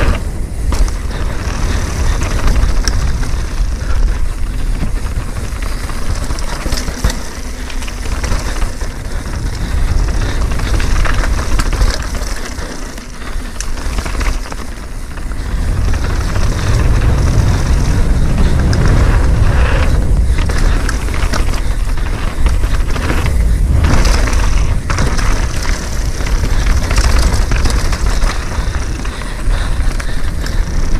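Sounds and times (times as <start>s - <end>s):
bike knocks and clatter: 0.0s - 30.9s
bike rumbling on dirt trail: 0.0s - 30.9s.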